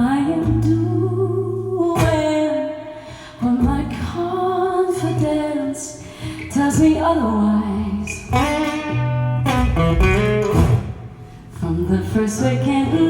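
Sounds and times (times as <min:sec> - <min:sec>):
woman singing: 0:00.0 - 0:09.0, 0:11.5 - 0:13.0
acoustic guitar chords: 0:00.0 - 0:13.0.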